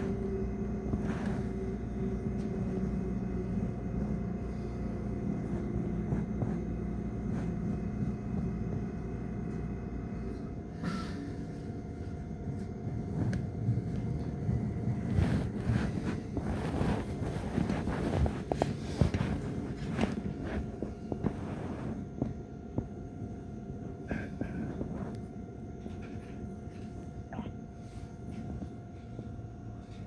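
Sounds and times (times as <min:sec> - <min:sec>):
hum of several tones: 0:00.0 - 0:30.0
train rumbling: 0:00.0 - 0:30.0.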